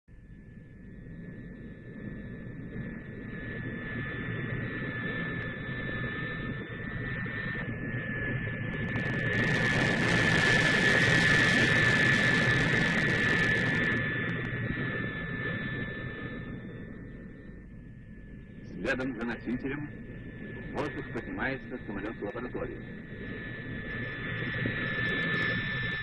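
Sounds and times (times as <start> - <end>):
heavy bomber taking off: 1.2 - 17.4, 18.3 - 26.0.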